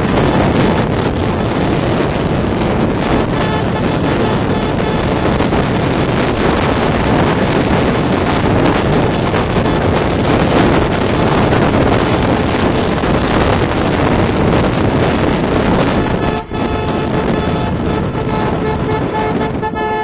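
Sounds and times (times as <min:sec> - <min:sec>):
road and vehicle noise: 0:00.0 - 0:20.0
wind buffeting microphone: 0:00.0 - 0:20.0.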